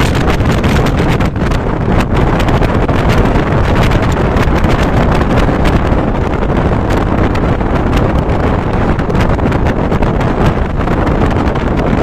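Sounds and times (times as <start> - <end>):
passenger train rumbling: 0.0 - 12.0
wind buffeting microphone: 0.0 - 12.0.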